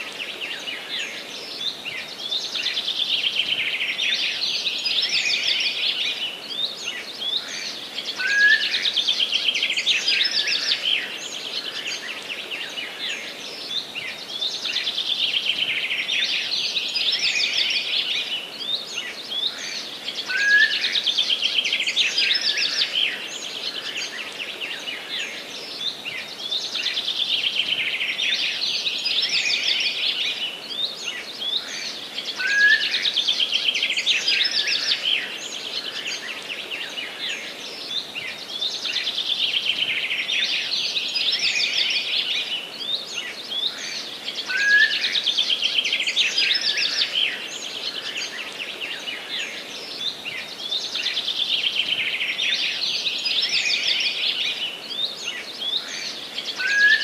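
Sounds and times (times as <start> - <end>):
forest birds chorus: 0.0 - 57.0.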